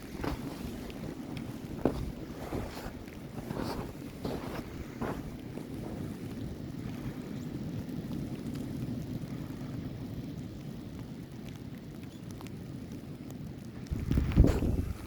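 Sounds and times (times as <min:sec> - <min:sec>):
wind buffeting microphone: 0:00.0 - 0:11.6, 0:13.5 - 0:15.0.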